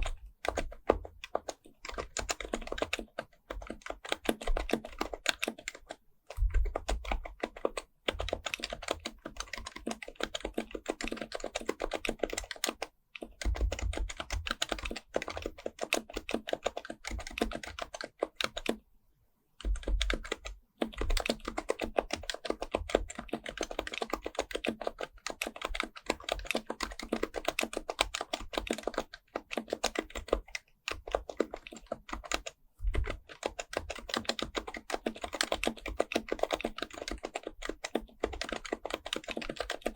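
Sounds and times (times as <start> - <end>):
fast keyboard typing: 0.0 - 18.8, 19.6 - 39.9.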